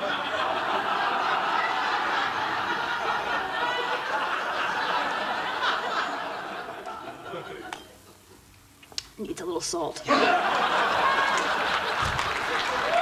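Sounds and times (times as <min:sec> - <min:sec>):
studio audience laughing: 0:00.0 - 0:08.4, 0:10.1 - 0:13.0.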